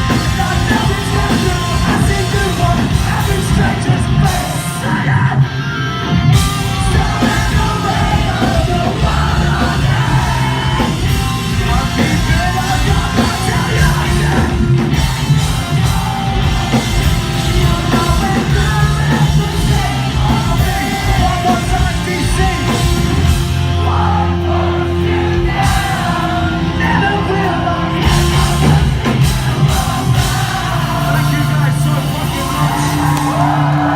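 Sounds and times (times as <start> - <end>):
person singing and yelling: 0.0 - 5.6, 6.4 - 33.9
distorted guitars: 0.0 - 33.9
drums: 0.0 - 33.9.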